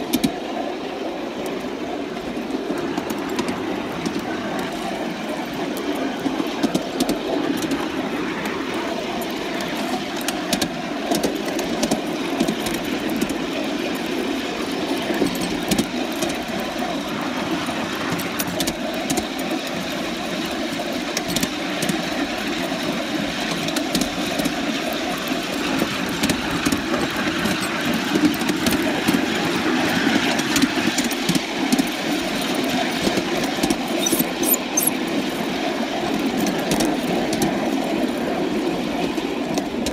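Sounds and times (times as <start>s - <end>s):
model steam locomotive running: 0.0s - 39.9s.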